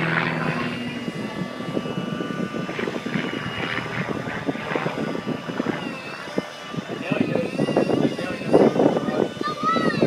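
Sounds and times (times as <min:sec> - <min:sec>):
model airplane motor drone: 0:00.0 - 0:10.0.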